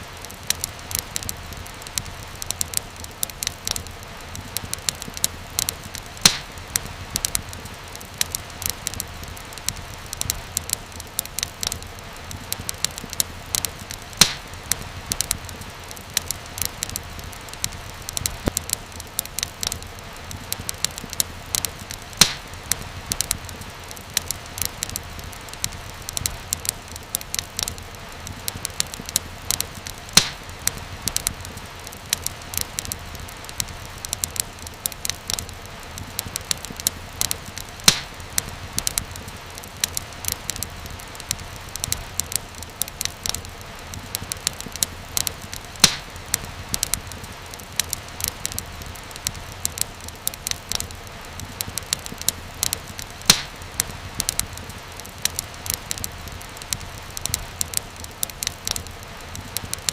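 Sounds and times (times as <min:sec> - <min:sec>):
fire pops: 0:00.0 - 0:59.9
wood fire crackling: 0:00.0 - 0:59.9.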